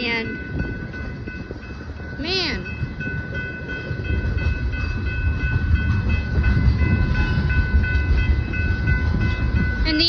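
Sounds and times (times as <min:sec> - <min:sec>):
freight train rumbling: 0:00.0 - 0:10.0
high ringing tones: 0:00.0 - 0:10.0.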